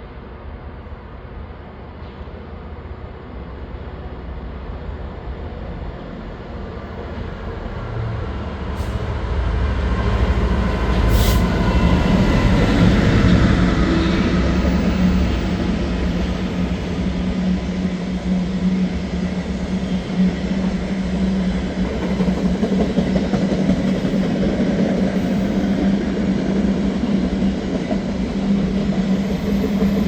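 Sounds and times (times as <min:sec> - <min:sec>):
diesel locomotive engine throbbing: 0:04.2 - 0:30.0.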